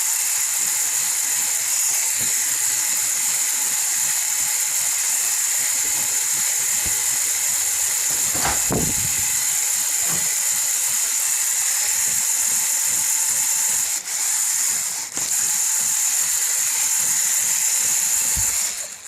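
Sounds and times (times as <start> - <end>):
toy motors whirring: 0.0 - 19.0.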